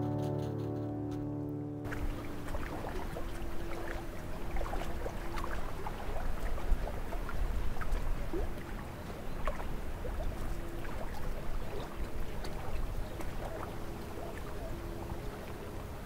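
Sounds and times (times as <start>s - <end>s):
faint chirps and ticks: 1.8s - 15.7s.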